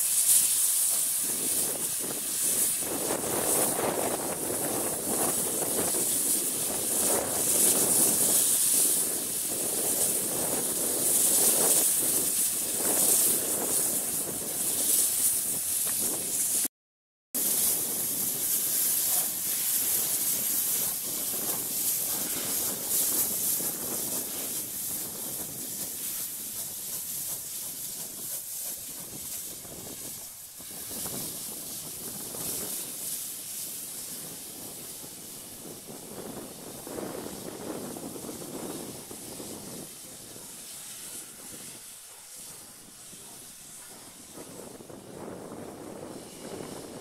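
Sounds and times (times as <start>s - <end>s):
steam locomotive hissing: 0.0s - 16.7s, 17.4s - 47.0s.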